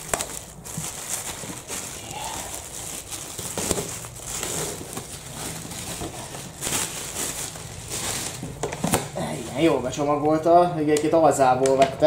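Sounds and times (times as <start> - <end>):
plastic bag rustling: 0.0 - 10.2.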